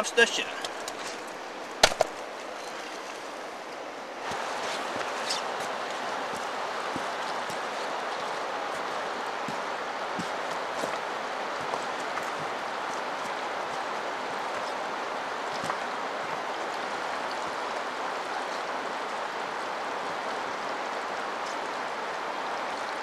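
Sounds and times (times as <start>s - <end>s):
river rushing over stones: 0.0s - 23.0s.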